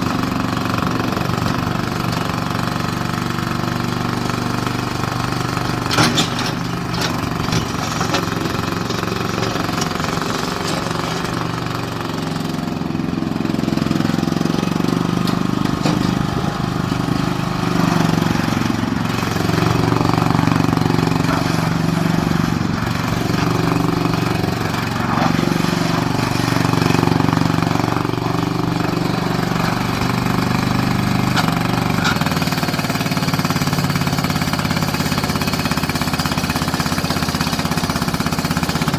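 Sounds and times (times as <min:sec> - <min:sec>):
skid-steer loader engine running: 0:00.0 - 0:38.9.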